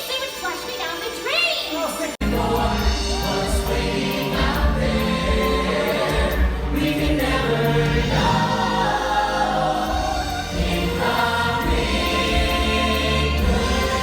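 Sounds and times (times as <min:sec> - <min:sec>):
choir singing with instruments: 0:02.2 - 0:14.0.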